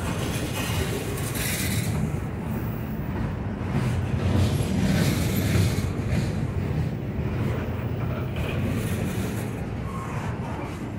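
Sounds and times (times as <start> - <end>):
freight train rumbling past: 0.0 - 10.9.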